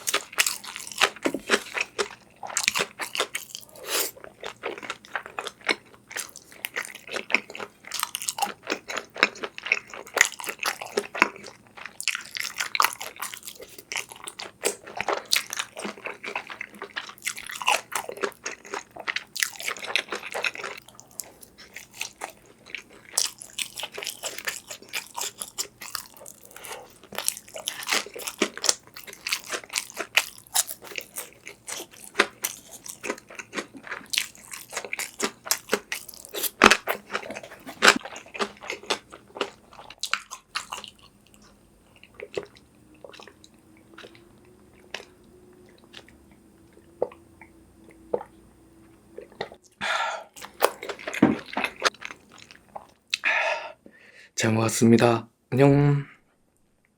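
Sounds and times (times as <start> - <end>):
close-miked crunching and chewing: 0.0 - 49.8, 50.4 - 53.2.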